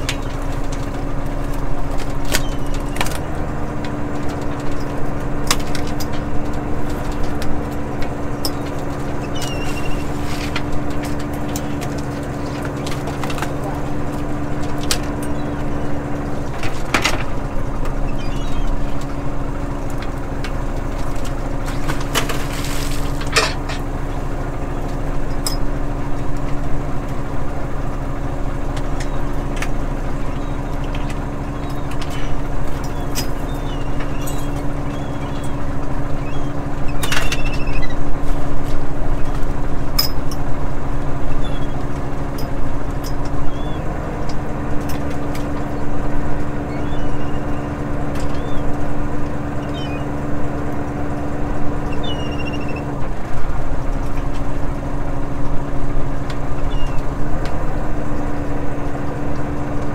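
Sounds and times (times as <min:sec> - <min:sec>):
clicks and knocks of gear: 0:00.0 - 0:23.9, 0:28.7 - 0:40.5, 0:41.2 - 0:59.9
boat engine humming: 0:00.0 - 0:59.9.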